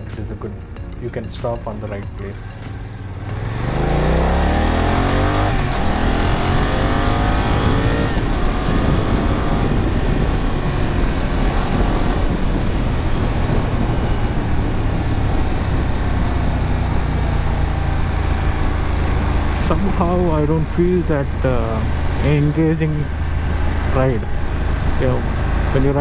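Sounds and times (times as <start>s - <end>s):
motorcycle engine accelerating: 2.0s - 26.0s
wind rush: 3.0s - 26.0s.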